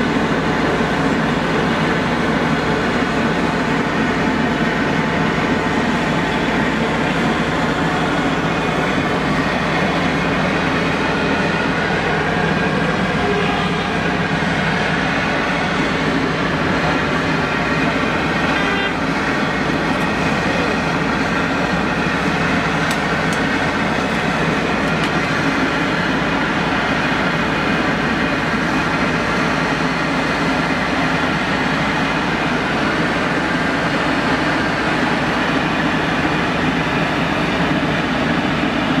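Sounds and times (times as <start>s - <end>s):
street traffic noise: 0.0s - 39.0s.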